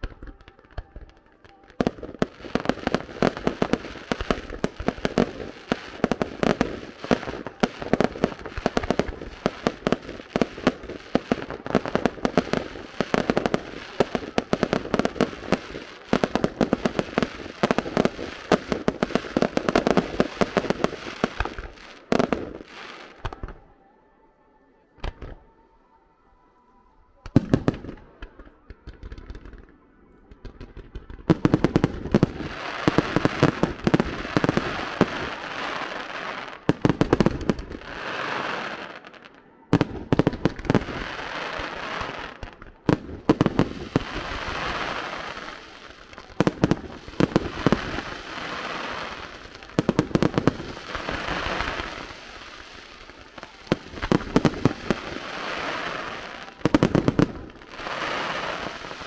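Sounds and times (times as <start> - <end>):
fireworks bangs: 0.0 - 23.6, 27.3 - 59.0
fireworks crackling: 0.0 - 23.7, 27.2 - 59.0.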